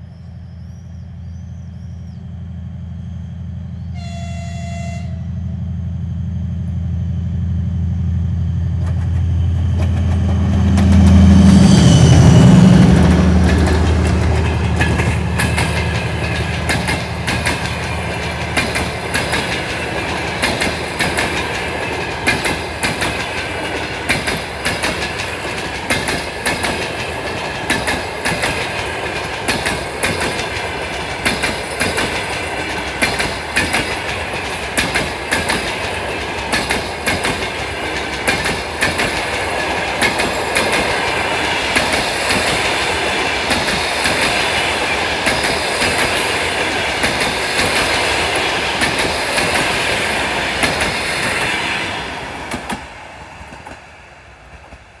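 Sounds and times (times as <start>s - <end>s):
train wheels clattering: 8.6s - 55.0s.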